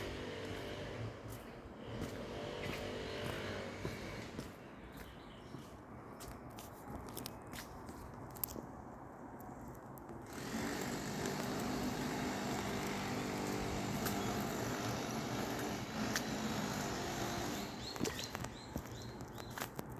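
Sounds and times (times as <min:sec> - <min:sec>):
vehicle engine and road noise: 0:00.0 - 0:19.9.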